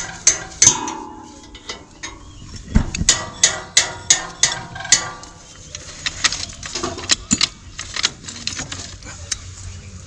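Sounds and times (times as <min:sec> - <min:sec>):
metal clicks and knocks: 0:00.0 - 0:09.4.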